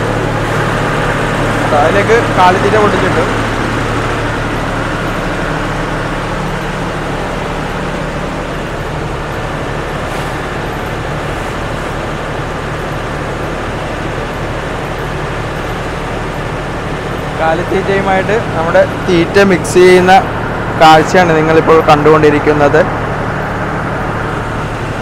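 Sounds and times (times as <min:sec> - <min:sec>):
feed mixer humming: 0:00.0 - 0:25.0.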